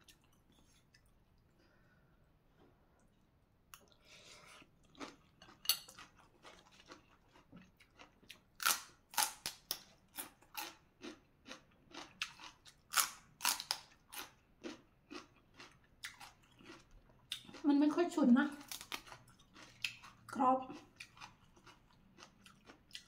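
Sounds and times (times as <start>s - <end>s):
crunchy chewing of vegetables: 3.8s - 23.0s.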